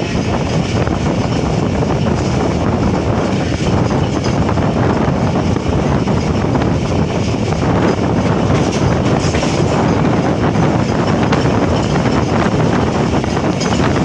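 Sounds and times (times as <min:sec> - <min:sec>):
train wheels rumbling on rails: 0:00.0 - 0:14.0
wind buffeting microphone: 0:00.0 - 0:14.0.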